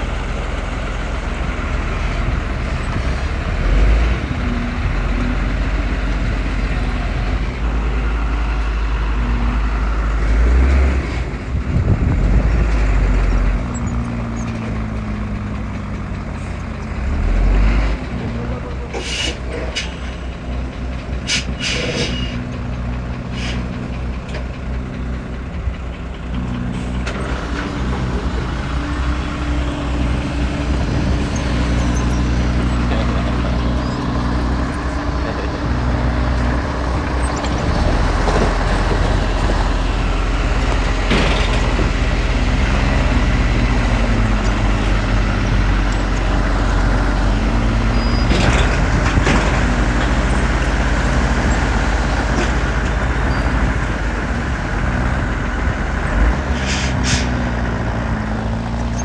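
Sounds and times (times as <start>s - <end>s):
diesel engines under load: 0.0s - 59.0s.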